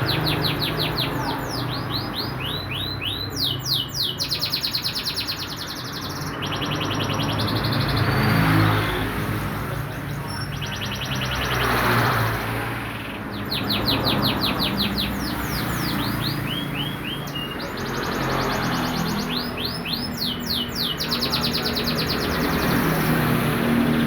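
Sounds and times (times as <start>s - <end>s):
canary singing trills: 0.0s - 9.0s, 10.0s - 23.9s.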